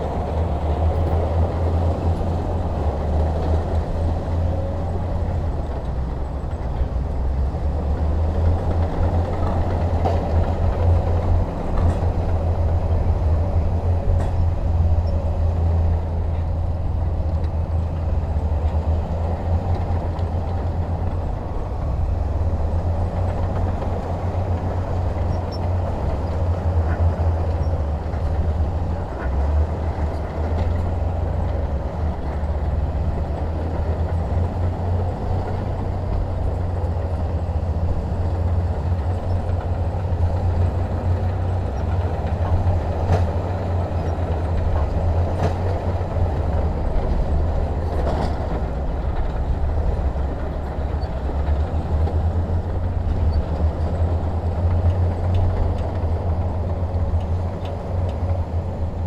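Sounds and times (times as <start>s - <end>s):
diesel machinery rumbling: 0.0s - 59.0s.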